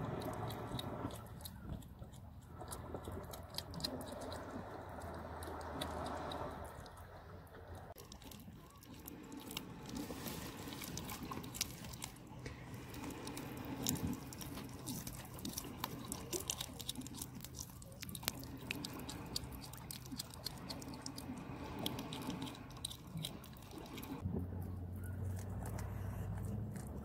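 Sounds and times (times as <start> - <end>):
mink chewing fish: 0.0 - 27.0.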